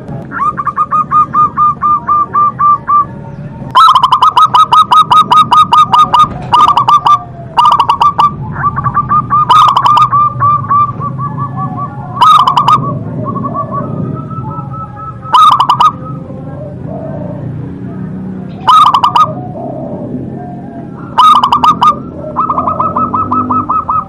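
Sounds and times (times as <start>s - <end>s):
dove cooing: 0.2s - 24.0s.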